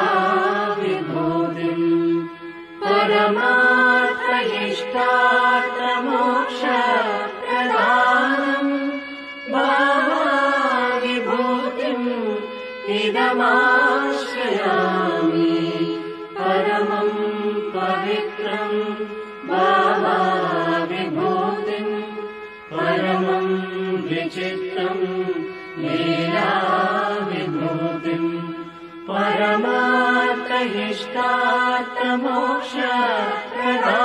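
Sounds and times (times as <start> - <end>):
devotional chanting with music: 0.0 - 34.0.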